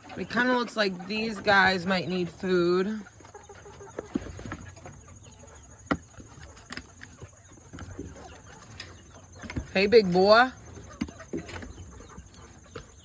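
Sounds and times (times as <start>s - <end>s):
chickens clucking softly: 0.0s - 13.0s.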